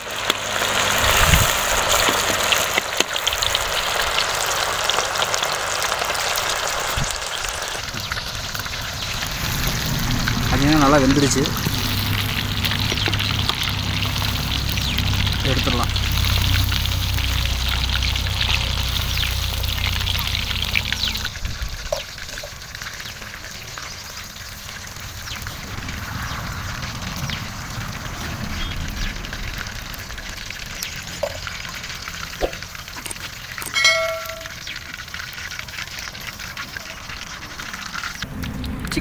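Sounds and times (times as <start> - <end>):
chicken deep-frying in oil: 0.0 - 39.0.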